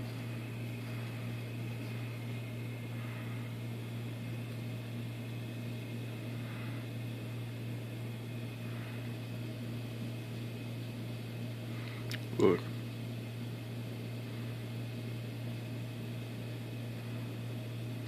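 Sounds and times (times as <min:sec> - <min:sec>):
low machine hum with hiss: 0:00.0 - 0:18.0.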